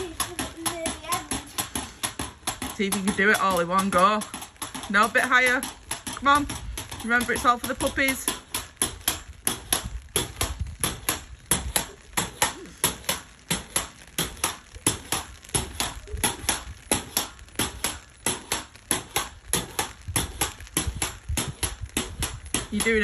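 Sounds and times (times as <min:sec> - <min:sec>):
pogo stick knocking on paving: 0:00.0 - 0:23.0.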